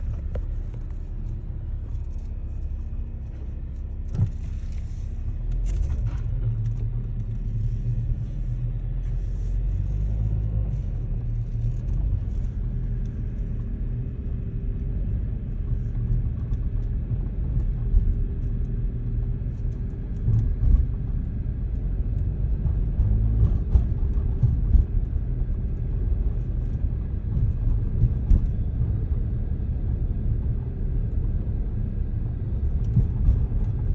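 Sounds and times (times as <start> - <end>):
car low rumble: 0.0 - 33.9.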